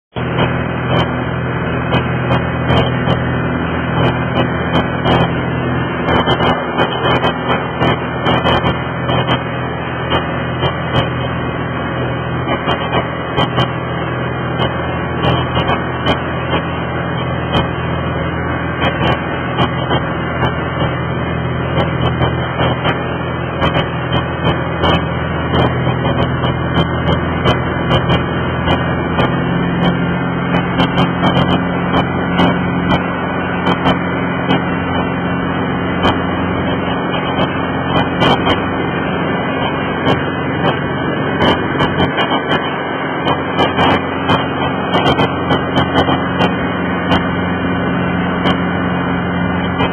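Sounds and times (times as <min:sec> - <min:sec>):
boat motor humming: 0:00.0 - 0:49.9
rushing water noise: 0:00.1 - 0:49.9.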